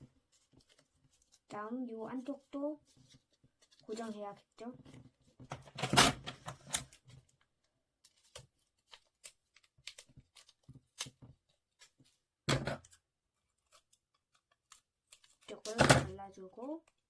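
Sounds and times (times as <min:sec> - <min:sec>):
paper rustling: 0:00.2 - 0:12.2, 0:12.8 - 0:15.9.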